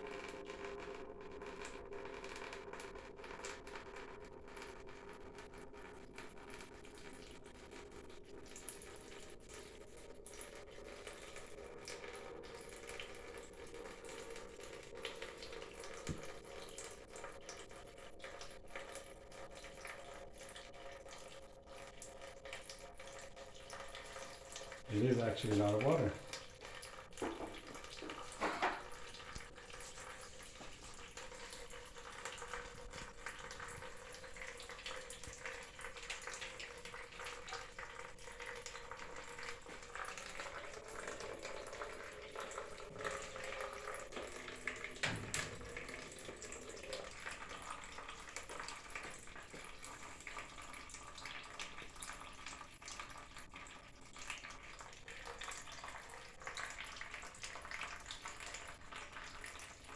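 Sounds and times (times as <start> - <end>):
water draining from pipe: 0.0 - 59.9.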